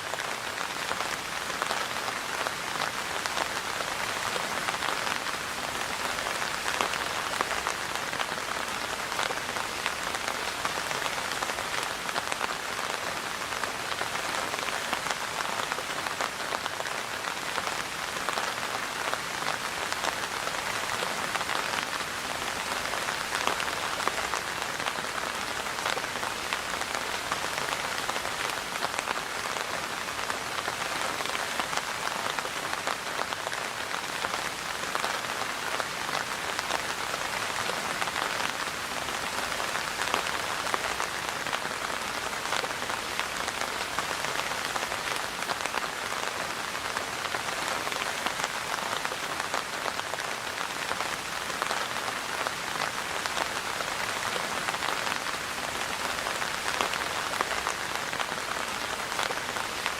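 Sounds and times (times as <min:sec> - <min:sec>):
rain on a hard surface: 0:00.0 - 0:59.9.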